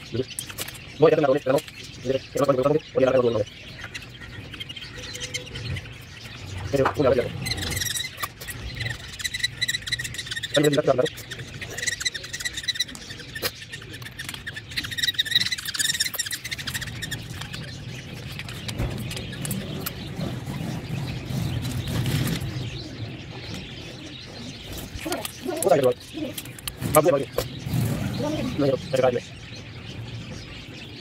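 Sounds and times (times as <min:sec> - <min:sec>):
budgerigar chicks chirping: 0:00.0 - 0:31.0.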